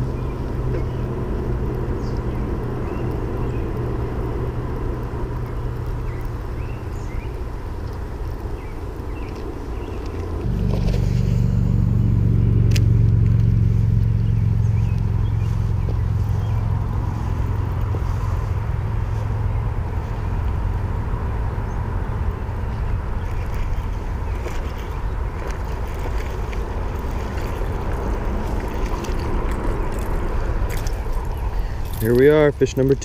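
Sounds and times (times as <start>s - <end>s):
low engine hum: 0.0s - 33.0s.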